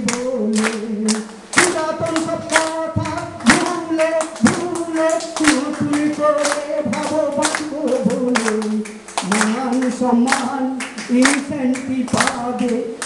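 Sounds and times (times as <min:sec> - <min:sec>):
audience clapping along: 0:00.0 - 0:13.0
man singing into microphone: 0:00.0 - 0:13.0.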